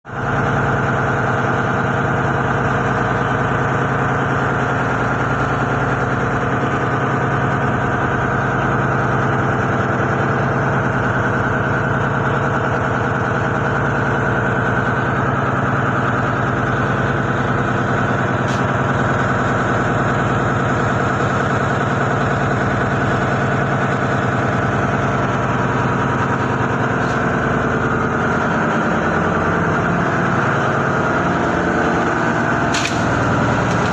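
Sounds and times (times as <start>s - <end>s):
motor humming steadily: 0.1s - 33.9s.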